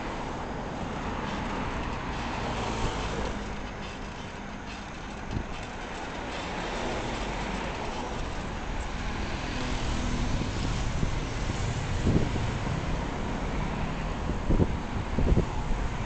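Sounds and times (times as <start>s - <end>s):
vehicle road noise: 0.0s - 16.0s.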